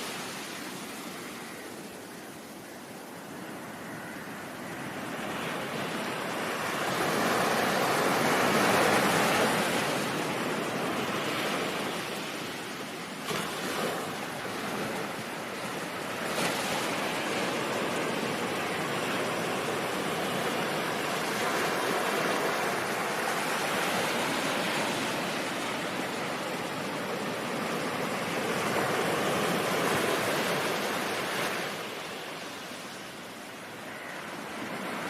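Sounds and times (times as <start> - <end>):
waves breaking: 0.0 - 1.6, 4.0 - 35.0
ocean waves washing in: 0.0 - 35.0.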